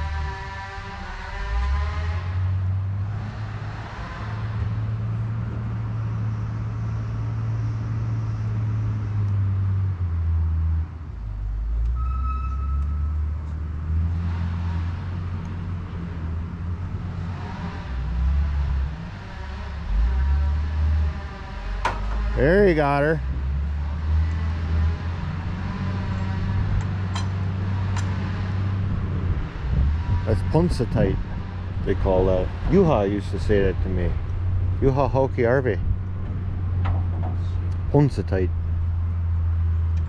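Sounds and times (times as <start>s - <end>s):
large engine rumbling: 0.0s - 40.0s.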